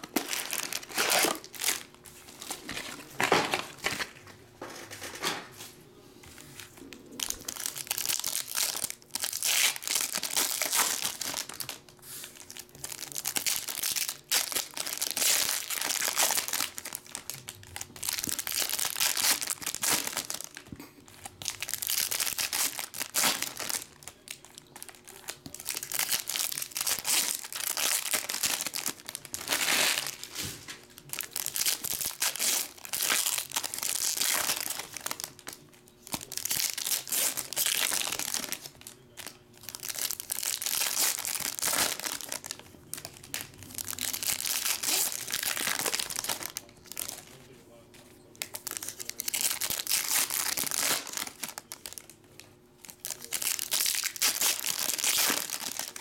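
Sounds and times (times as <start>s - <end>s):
foil wrappers tearing and crinkling: 0.0s - 4.2s, 7.2s - 47.4s, 48.4s - 52.2s, 52.8s - 56.0s.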